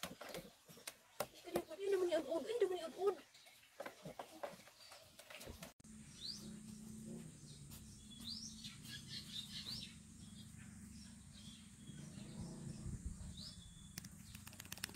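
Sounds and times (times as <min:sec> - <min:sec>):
faint birds chirping: 0:00.1 - 0:14.9.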